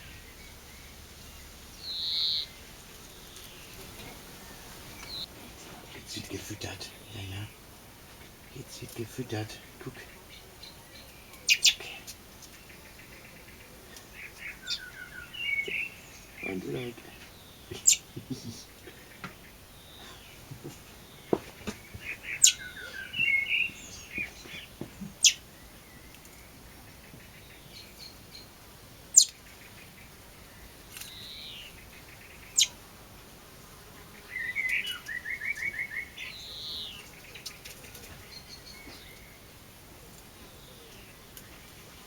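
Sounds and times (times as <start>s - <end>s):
small birds chirping: 0.0s - 32.9s, 34.0s - 42.0s.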